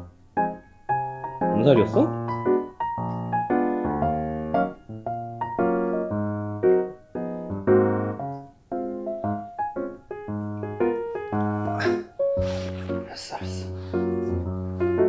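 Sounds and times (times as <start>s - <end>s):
light piano tune: 0.0s - 15.0s.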